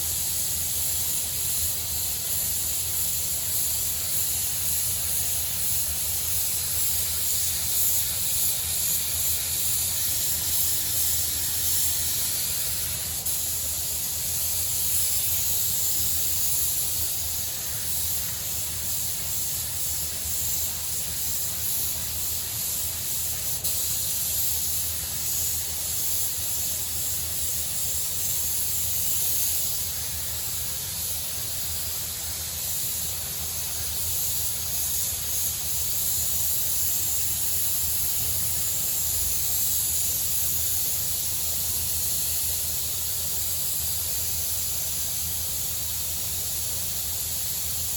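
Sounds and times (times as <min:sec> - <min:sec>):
paint spray gun hissing: 0:00.0 - 0:47.9.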